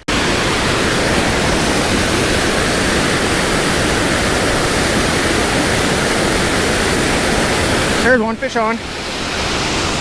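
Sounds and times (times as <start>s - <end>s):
fast-flowing water rushing: 0.0s - 10.0s.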